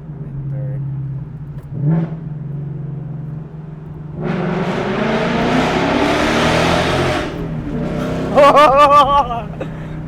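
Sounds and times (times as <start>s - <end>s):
car engine revving: 0.8s - 10.0s.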